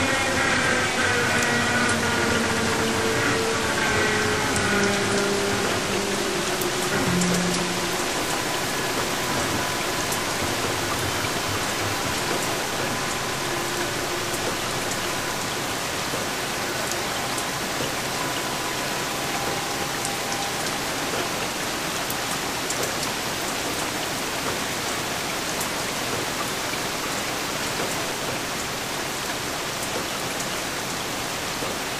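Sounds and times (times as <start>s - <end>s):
steady hiss-like noise: 0.0s - 31.9s.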